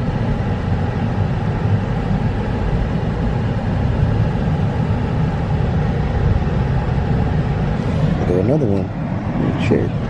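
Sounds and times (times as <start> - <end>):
car driving slowly: 0.0 - 10.0.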